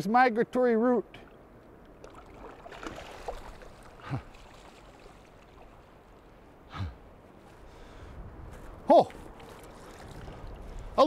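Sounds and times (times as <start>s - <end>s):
river water lapping and splashing: 1.1s - 11.0s.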